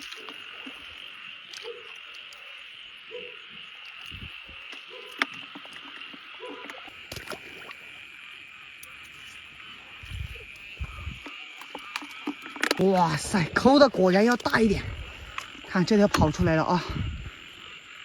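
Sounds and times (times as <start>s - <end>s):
frog calling: 0.0s - 18.0s
high insect trill: 0.0s - 18.0s
wading splashes: 0.0s - 18.0s.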